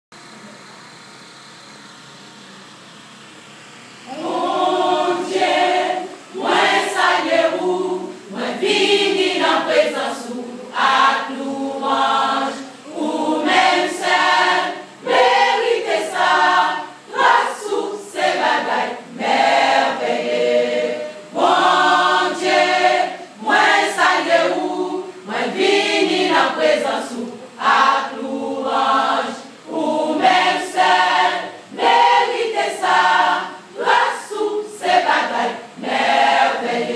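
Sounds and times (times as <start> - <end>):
low room hum: 0.2 - 36.9
women's choir singing: 4.1 - 36.9.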